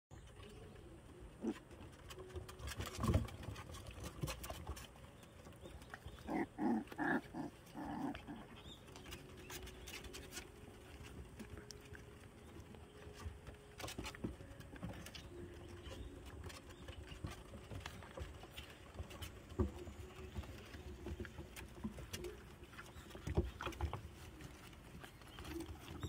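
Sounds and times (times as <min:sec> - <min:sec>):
puppies playing: 0:00.1 - 0:26.0.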